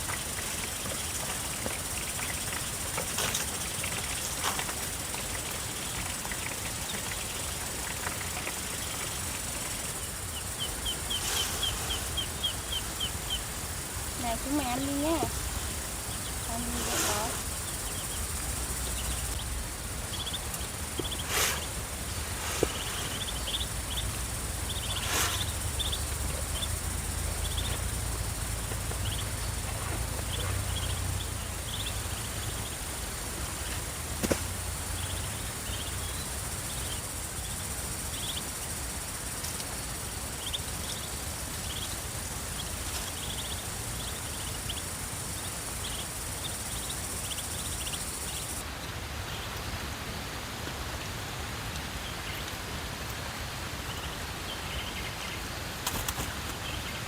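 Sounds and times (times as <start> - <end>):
ducklings peeping: 0.0 - 38.6, 39.3 - 49.6, 51.0 - 52.6, 53.8 - 57.0
outdoor background hiss: 0.0 - 57.0.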